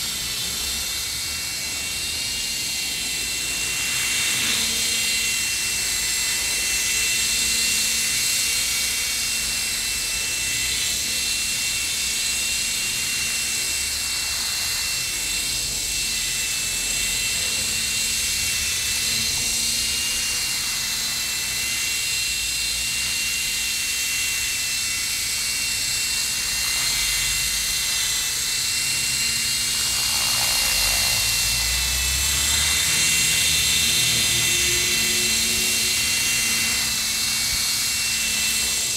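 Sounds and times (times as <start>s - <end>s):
model helicopter motor whine: 0.0s - 38.9s
rotor blades whirring: 0.0s - 38.9s.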